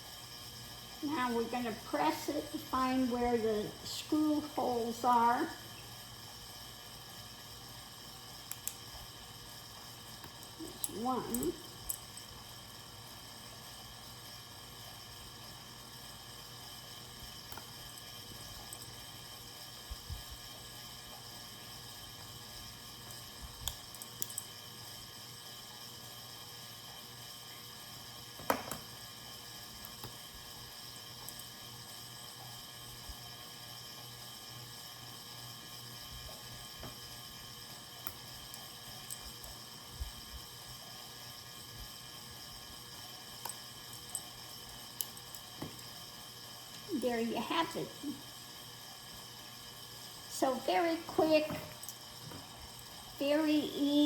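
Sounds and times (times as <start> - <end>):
heating fan humming: 0.0 - 54.0.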